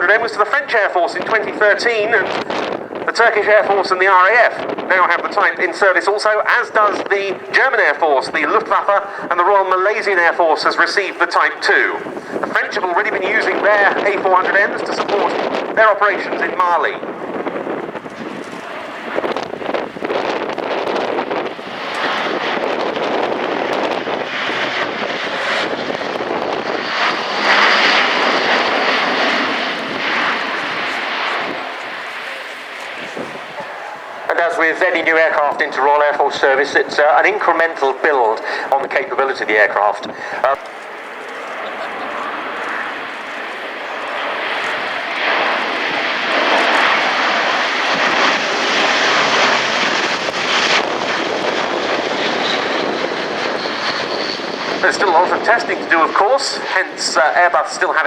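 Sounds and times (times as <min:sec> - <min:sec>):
turboprop engines roaring: 0:00.0 - 0:58.0.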